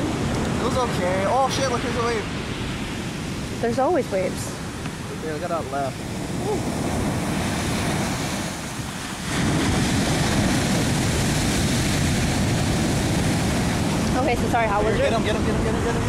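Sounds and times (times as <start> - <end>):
ocean waves breaking: 0.0 - 16.0
wind rumbling on microphone: 0.0 - 16.0.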